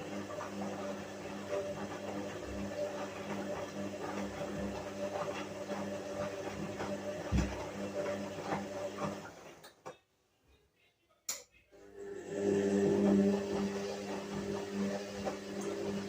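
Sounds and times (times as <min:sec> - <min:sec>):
washing machine motor hum: 0:00.0 - 0:09.8, 0:11.7 - 0:16.0.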